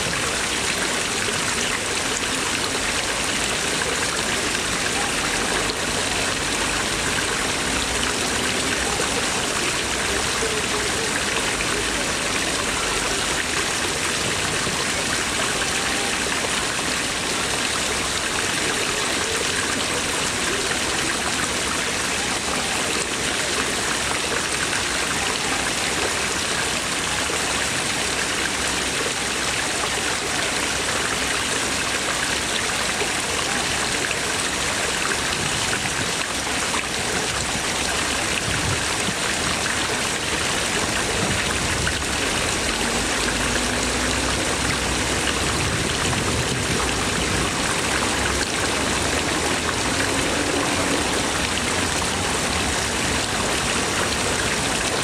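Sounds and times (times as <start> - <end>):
water jets splashing into pond: 0.0 - 55.0.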